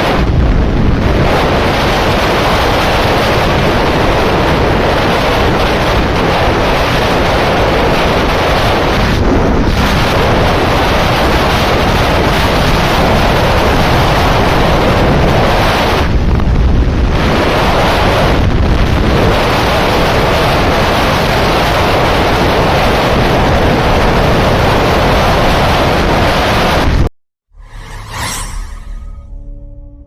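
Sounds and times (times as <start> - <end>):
wind rushing over microphone: 0.0 - 29.8.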